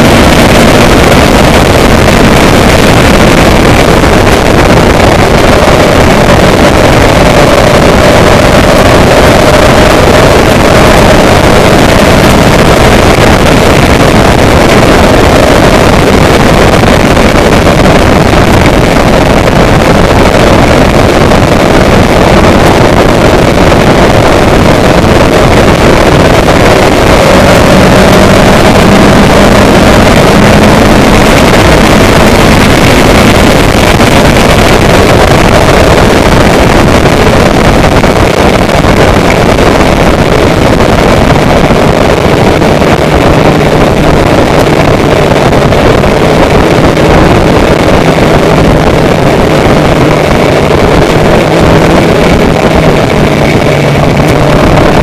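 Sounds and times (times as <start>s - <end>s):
vehicle engine drone: 0.0s - 55.0s
wind noise on microphone: 0.0s - 55.0s.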